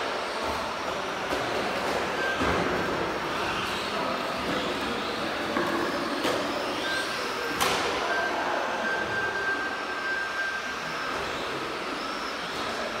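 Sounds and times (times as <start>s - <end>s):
small electric motors whirring: 0.0s - 13.0s.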